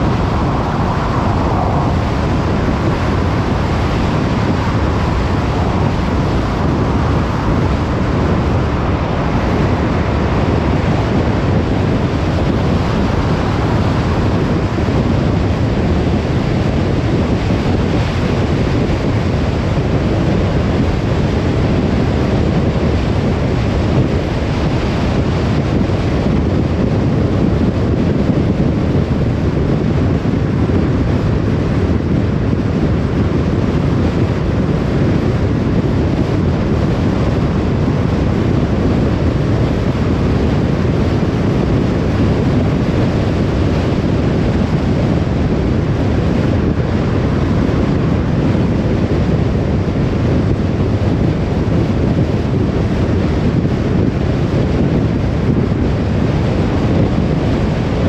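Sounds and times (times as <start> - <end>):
car tyre and wind noise: 0.0 - 58.0.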